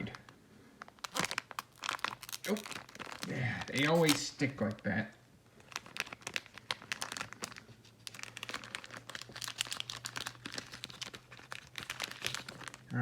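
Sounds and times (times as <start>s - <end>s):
plastic pack crinkling: 0.0s - 13.0s.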